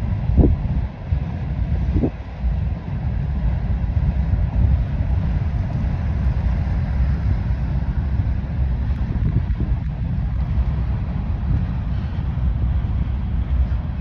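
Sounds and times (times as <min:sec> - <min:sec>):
train rolling past rumble: 0:00.0 - 0:14.0
wind buffeting microphone: 0:00.0 - 0:14.0.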